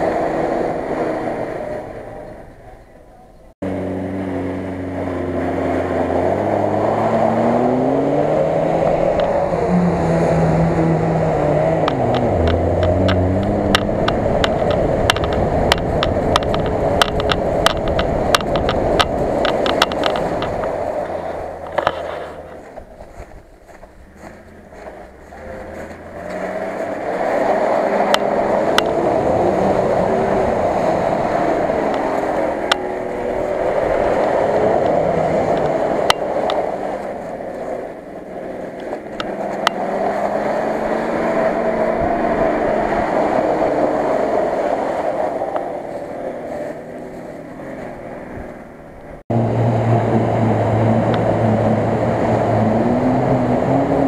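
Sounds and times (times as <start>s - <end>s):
vehicle ploughing through mud and water: 0.0s - 54.0s
engine revving hard: 3.6s - 23.2s, 24.1s - 48.5s, 49.3s - 54.0s.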